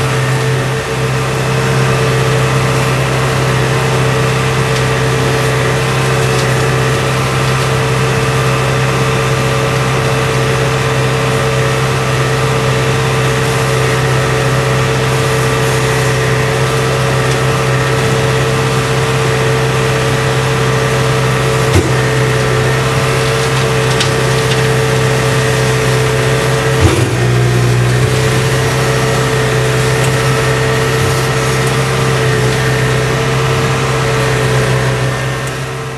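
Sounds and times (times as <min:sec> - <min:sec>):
tractor engine drone: 0:00.0 - 0:35.9.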